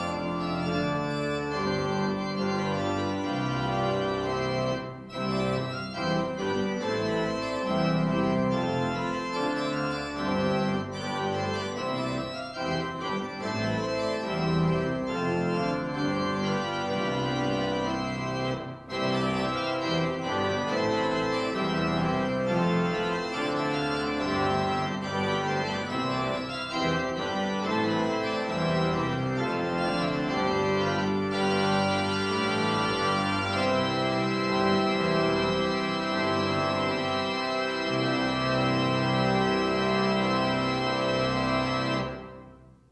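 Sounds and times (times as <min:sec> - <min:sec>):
organ music with held chords: 0:00.0 - 0:42.9.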